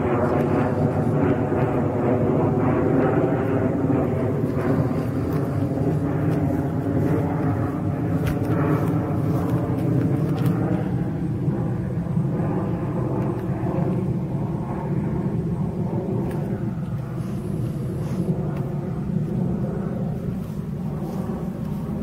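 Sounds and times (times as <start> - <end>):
jet airliner flying overhead: 0.0 - 22.0.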